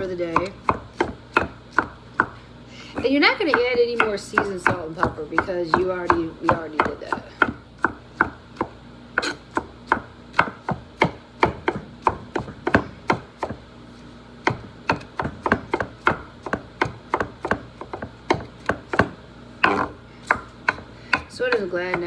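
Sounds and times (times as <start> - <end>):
knife chopping on cutting board: 0.3 - 2.4, 3.0 - 13.6, 14.4 - 22.0.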